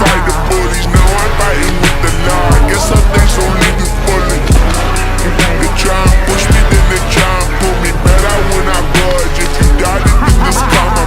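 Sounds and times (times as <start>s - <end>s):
hip hop backing track: 0.0s - 11.0s.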